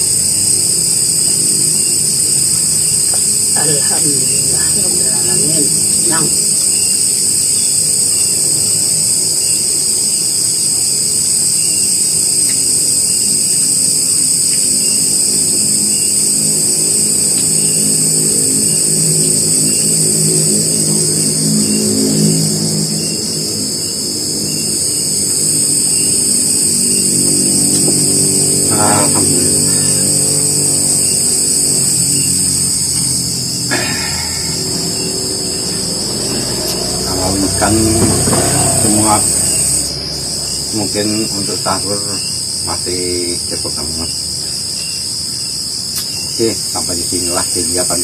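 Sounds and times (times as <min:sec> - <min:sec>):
engine running: 0:00.0 - 0:45.2
high-pitched whine: 0:00.0 - 0:48.0.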